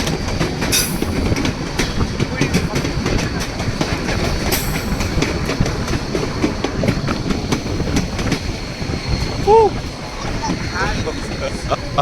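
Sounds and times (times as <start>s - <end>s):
train rumbling along track: 0.0s - 12.0s
wheels clicking over rail joints: 0.0s - 12.0s.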